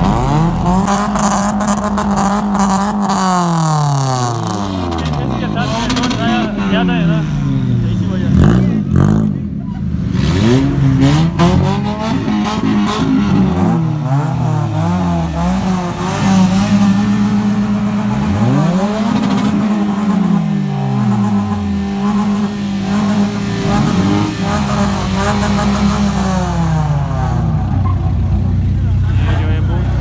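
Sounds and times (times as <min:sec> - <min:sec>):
car engines revving: 0:00.0 - 0:30.0.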